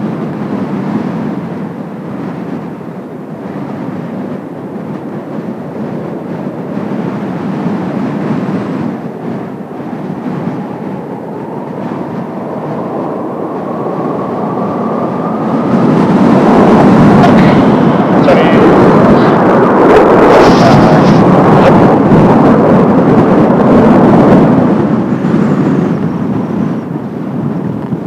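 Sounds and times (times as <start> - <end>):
jet engines rumbling and whining: 0.0 - 28.0.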